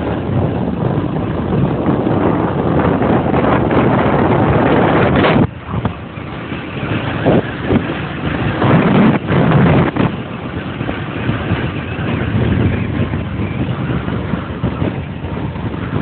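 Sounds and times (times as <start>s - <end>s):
motorbike engine and road noise: 0.0s - 16.0s
wind rushing over microphone: 0.0s - 16.0s.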